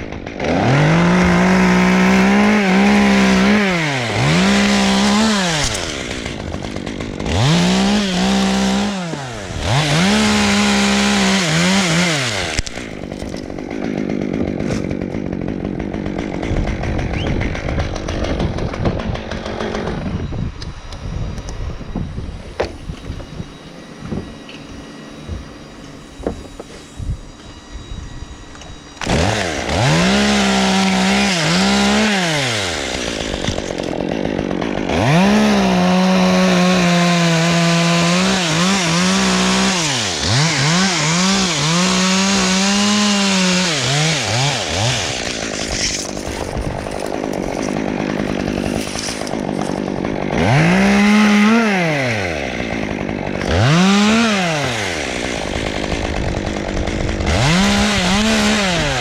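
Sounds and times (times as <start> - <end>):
chainsaw revving and cutting: 0.0 - 20.3, 28.6 - 59.0.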